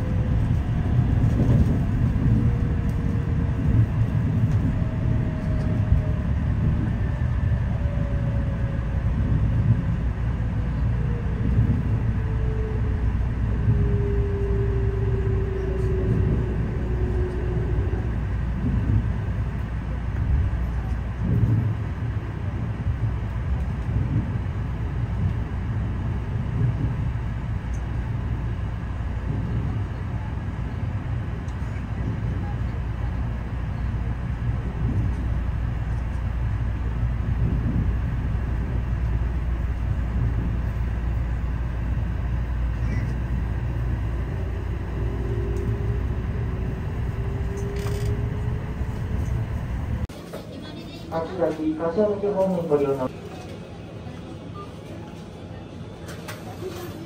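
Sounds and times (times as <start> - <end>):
moving train rumbling: 0.0 - 57.0.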